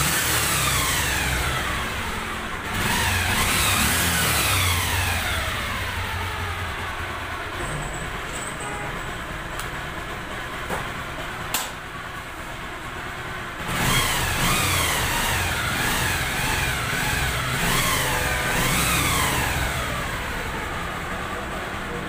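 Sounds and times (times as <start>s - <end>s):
motorcycle engine revving: 0.0s - 11.0s, 12.0s - 22.0s.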